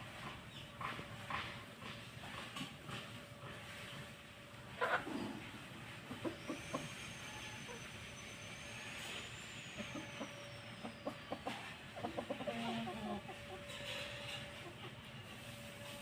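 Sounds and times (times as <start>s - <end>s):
chickens clucking: 0.1s - 8.8s, 9.7s - 16.0s.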